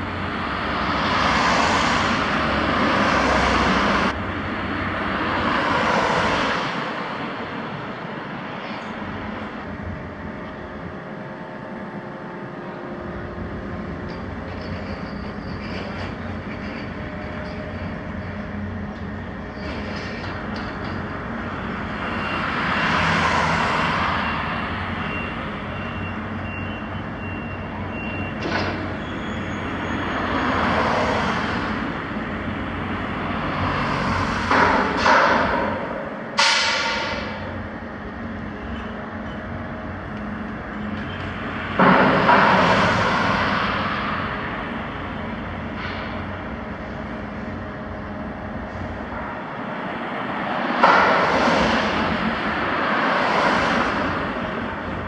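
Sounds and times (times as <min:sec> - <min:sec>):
shipyard machinery din: 0:00.0 - 0:55.0.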